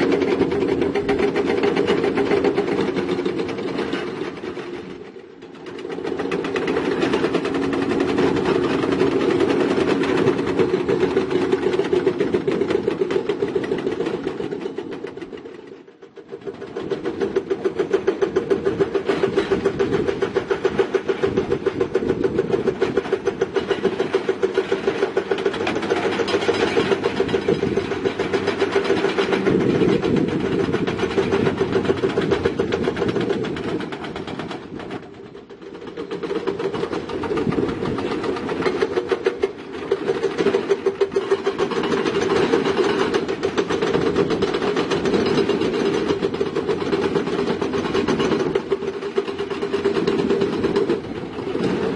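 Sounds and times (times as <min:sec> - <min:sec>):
diesel engine clattering under load: 0:00.0 - 0:51.9.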